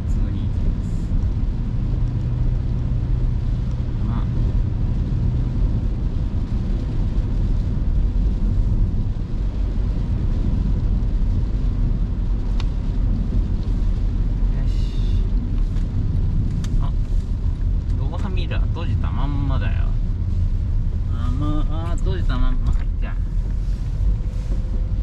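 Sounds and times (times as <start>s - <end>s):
engine and tyre rumble: 0.0s - 25.0s
hiss of spray and rain: 0.0s - 25.0s.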